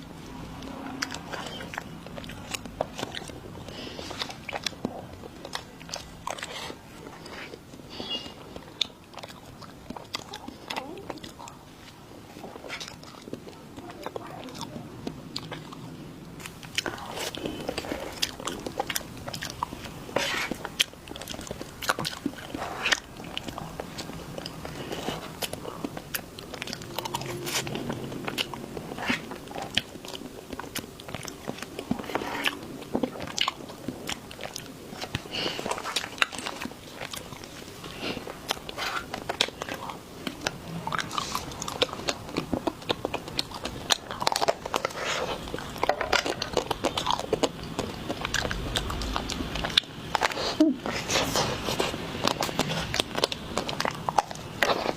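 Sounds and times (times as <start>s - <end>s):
biting and chewing crunches: 0.0s - 54.9s.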